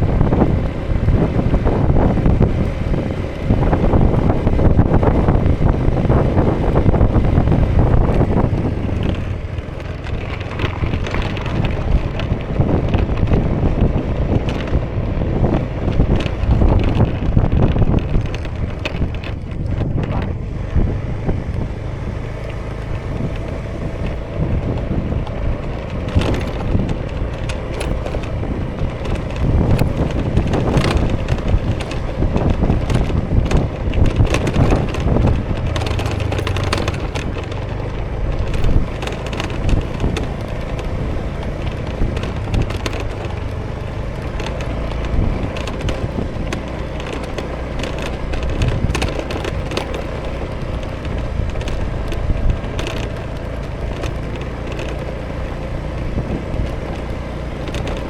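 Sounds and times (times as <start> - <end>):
scooter engine running: 0.0 - 58.0
wind buffeting on microphone: 0.0 - 58.0.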